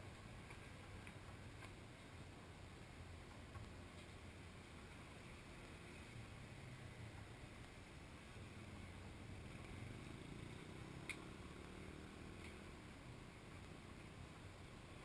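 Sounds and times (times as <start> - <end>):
faint low background rumble: 0.0 - 15.0.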